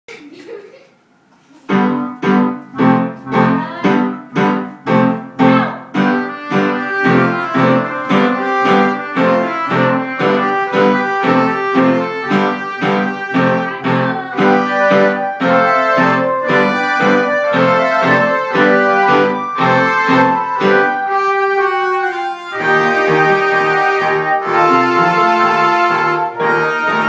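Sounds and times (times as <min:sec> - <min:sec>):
piano playing a comical tune: 0:01.6 - 0:27.0.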